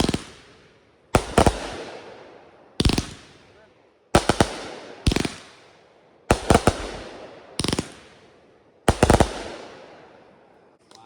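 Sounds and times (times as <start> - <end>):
fireworks bangs with echo: 0.0 - 10.6.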